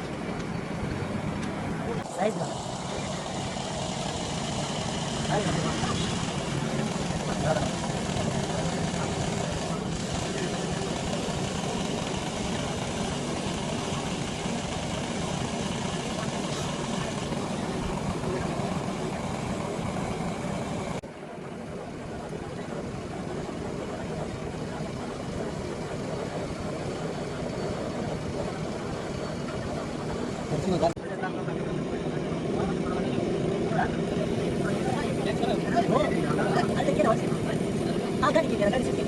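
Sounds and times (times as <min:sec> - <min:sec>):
machine running noise: 0:00.0 - 0:39.0.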